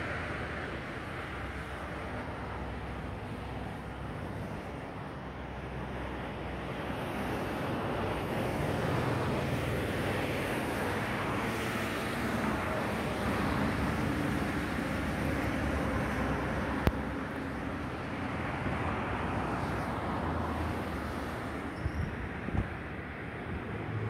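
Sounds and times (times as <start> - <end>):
distant jet engine rush: 0.0 - 24.0.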